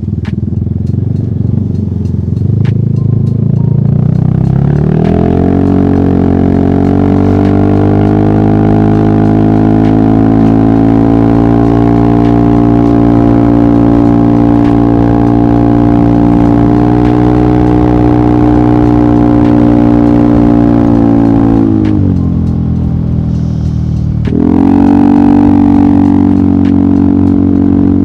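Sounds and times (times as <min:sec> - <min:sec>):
scooter engine cruising: 0:00.0 - 0:28.0.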